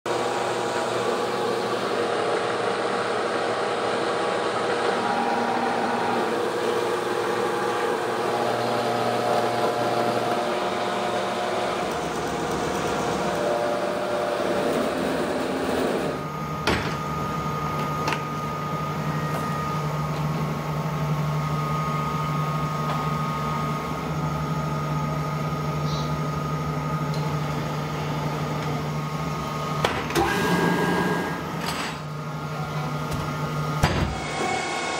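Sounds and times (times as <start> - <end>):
constant whine: 0.1 - 30.2
machinery drone: 0.1 - 34.9.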